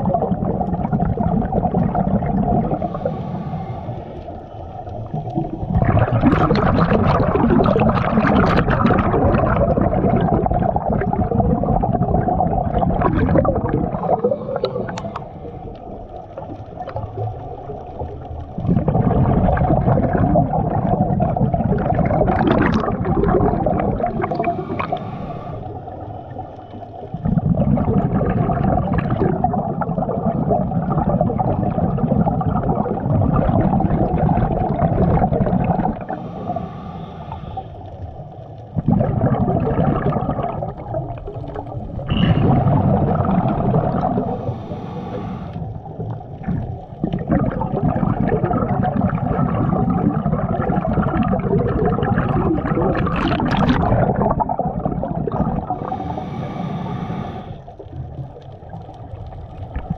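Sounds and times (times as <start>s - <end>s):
underwater bubbles gurgling: 0.0s - 59.9s.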